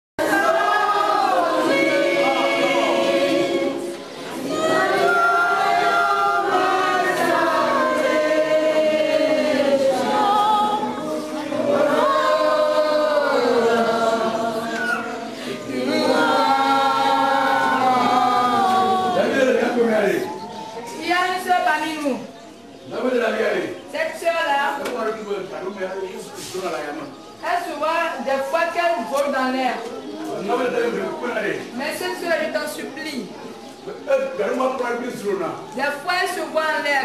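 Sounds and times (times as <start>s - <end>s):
congregation singing unaccompanied: 0.2s - 37.0s.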